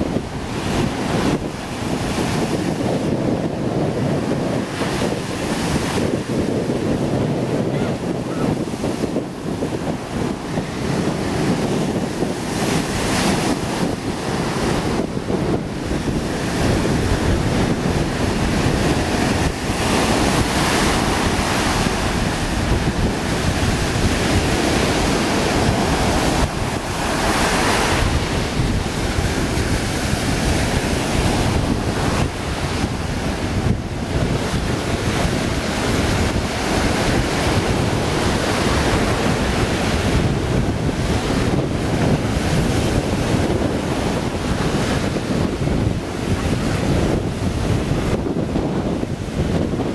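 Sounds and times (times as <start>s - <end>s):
breaking surf: 0.0s - 49.9s
wind buffeting microphone: 0.0s - 49.9s.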